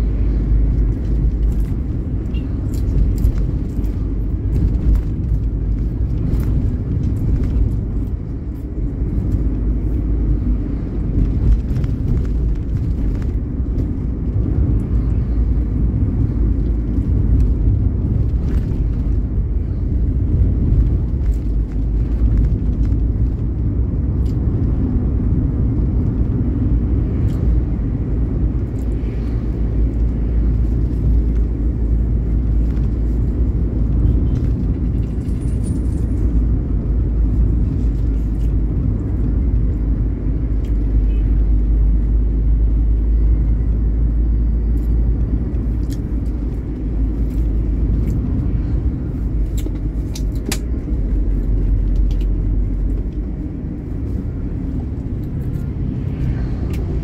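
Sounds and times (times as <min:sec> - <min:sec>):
vehicle driving on road: 0:00.0 - 0:57.0.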